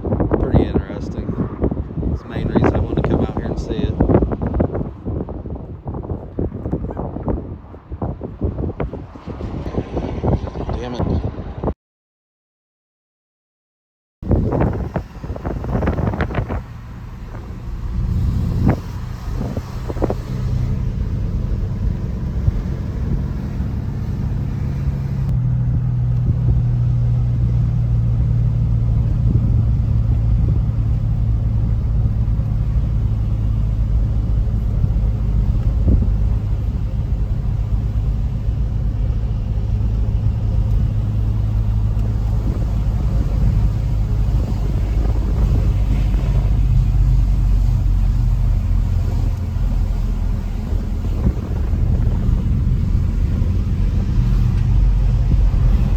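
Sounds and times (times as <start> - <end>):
car engine and road drone: 0.0 - 11.8, 14.2 - 55.9.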